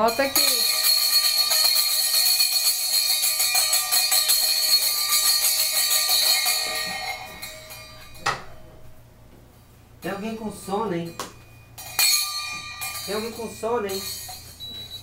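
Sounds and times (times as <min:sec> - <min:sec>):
bell ringing: 0:00.0 - 0:09.0, 0:10.0 - 0:15.0.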